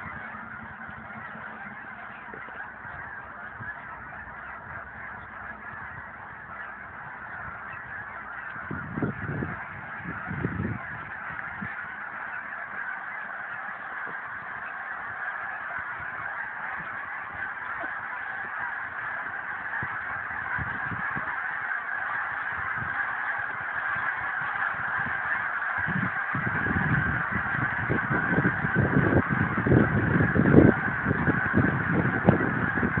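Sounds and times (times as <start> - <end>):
flock of birds honking: 0.0 - 33.0.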